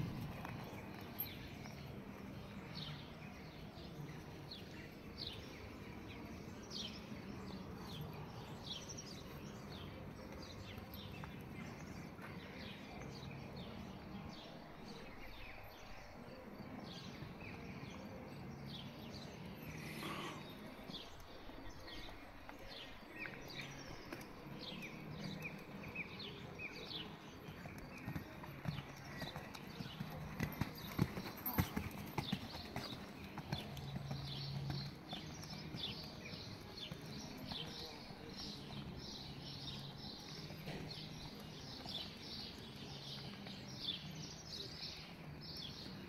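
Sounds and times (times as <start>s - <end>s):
horse hoofbeats on sand: 0.0s - 13.9s, 20.9s - 46.0s
small birds chirping: 0.0s - 46.0s.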